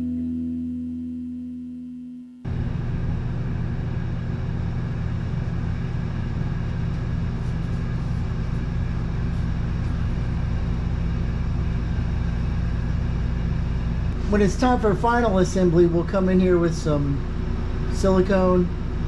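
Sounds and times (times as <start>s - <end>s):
motor humming steadily: 2.4s - 19.0s.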